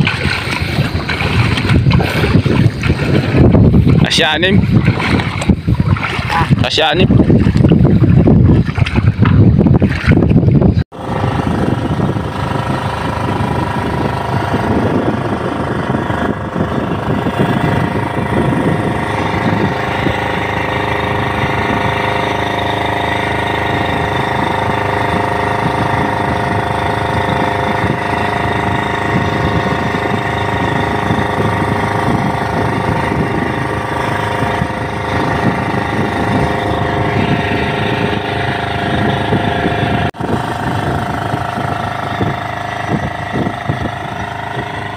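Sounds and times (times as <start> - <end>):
small boat engine running: 0.0 - 44.9.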